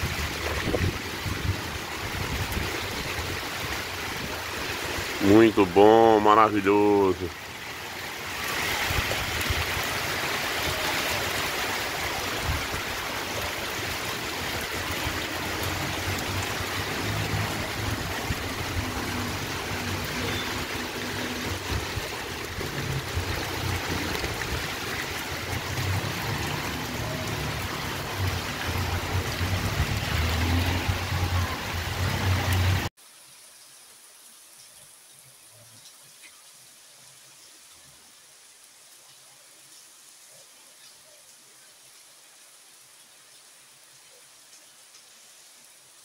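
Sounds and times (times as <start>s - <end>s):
heavy rain on tile roof: 0.0s - 46.0s.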